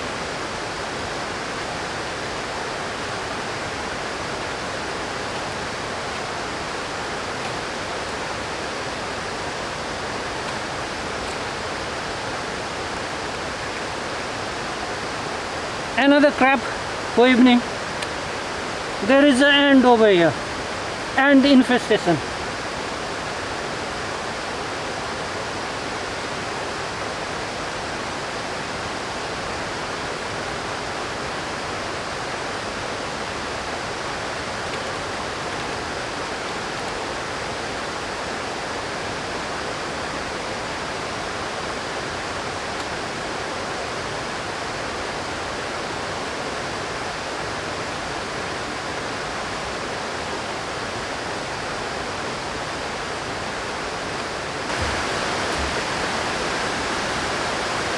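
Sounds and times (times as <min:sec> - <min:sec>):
river rushing: 0:00.0 - 0:57.9.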